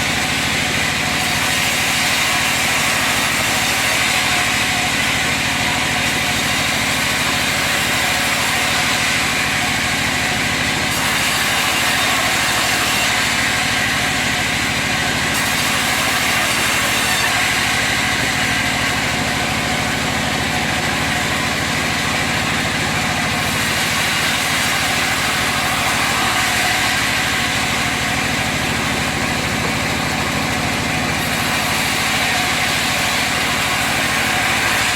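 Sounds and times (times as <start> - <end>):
sawmill machine droning: 0.0 - 34.9.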